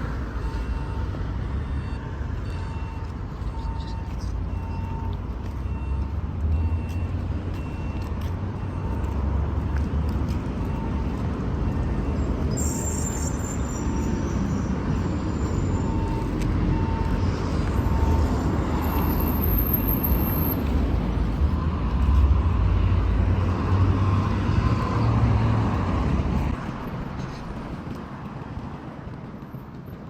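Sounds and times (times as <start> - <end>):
rumble of passing vehicles: 0.0 - 30.0.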